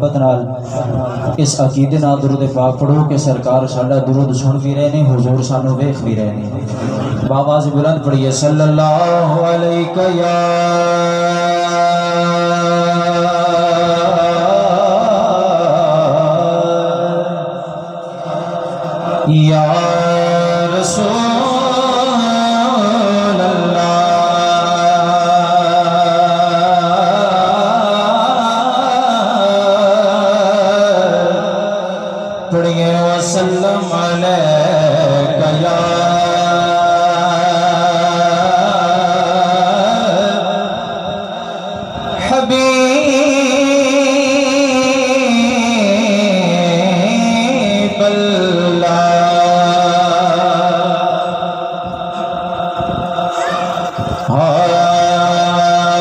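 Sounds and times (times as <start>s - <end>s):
man chanting into microphone: 0.0s - 56.0s.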